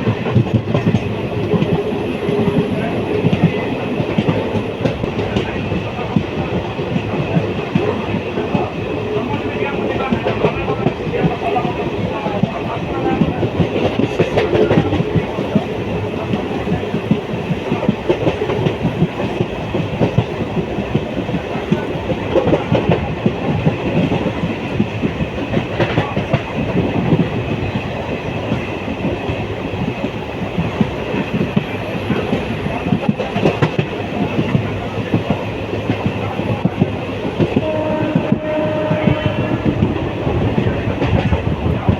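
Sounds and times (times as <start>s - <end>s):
train carriage rattling: 0.0s - 41.9s.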